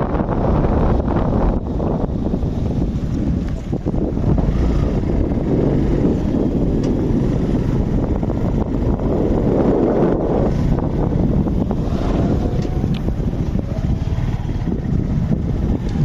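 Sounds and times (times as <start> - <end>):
traffic and road noise: 0.0 - 16.0
wind buffeting microphone: 0.0 - 16.0.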